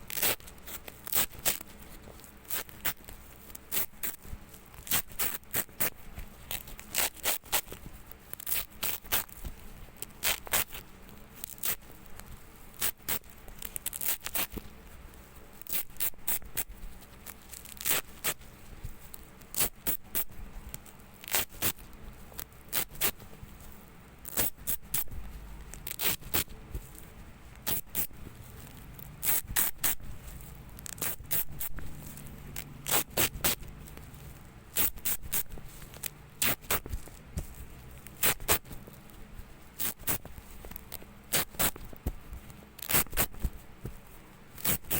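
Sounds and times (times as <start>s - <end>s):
velcro ripping apart: 0.1s - 7.8s, 8.4s - 9.4s, 10.0s - 10.8s, 11.4s - 12.2s, 12.8s - 14.7s, 15.6s - 23.2s, 24.2s - 27.0s, 27.6s - 39.0s, 39.8s - 42.0s, 42.8s - 43.6s, 44.6s - 44.9s.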